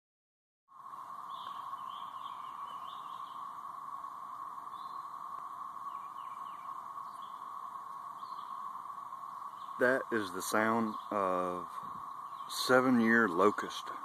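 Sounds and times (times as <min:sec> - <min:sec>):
cicadas droning: 0:00.7 - 0:14.0.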